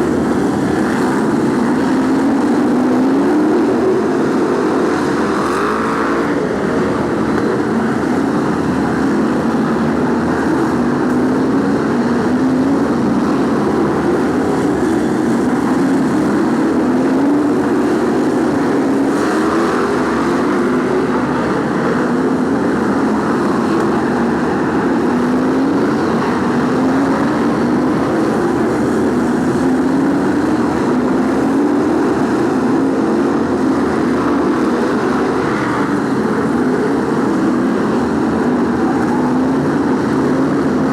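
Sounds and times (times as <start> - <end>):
race car engines accelerating: 0.0 - 40.9.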